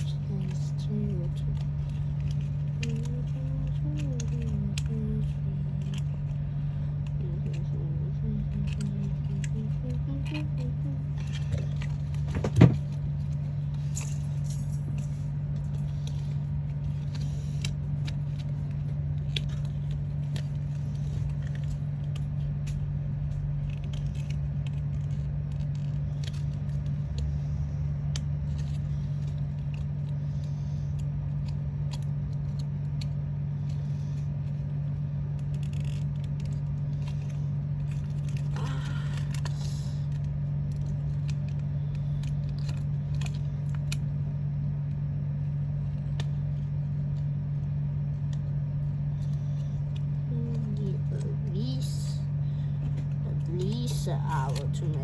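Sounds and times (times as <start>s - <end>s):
low hum: 0.0s - 55.0s
paper and card rustling: 0.0s - 55.0s.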